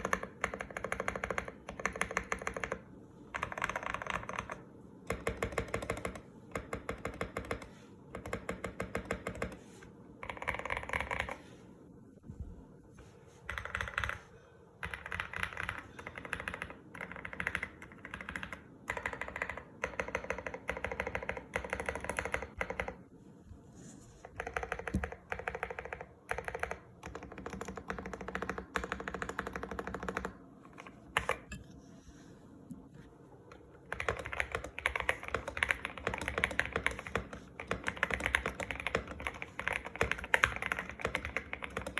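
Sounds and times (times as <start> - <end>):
mechanical keyboard typing: 0.0 - 9.6, 10.2 - 11.4, 13.4 - 23.0, 24.2 - 31.6, 33.8 - 41.9.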